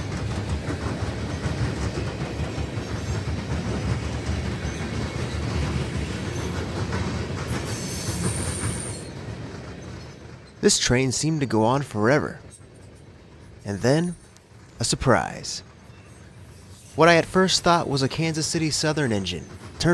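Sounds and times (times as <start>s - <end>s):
freight train rumbling past: 0.0s - 19.9s.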